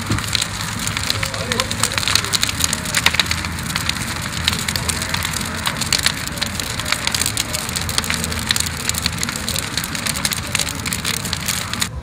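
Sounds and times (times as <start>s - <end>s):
bonfire crackling and popping: 0.0s - 12.0s
low background rumble: 0.0s - 12.0s.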